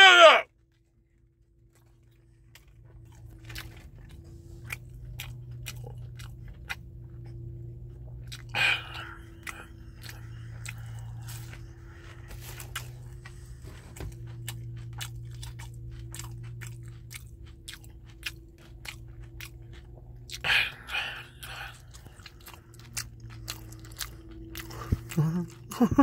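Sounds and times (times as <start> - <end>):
chewing crispy food: 0.0 - 26.0
steady low hum: 0.4 - 26.0.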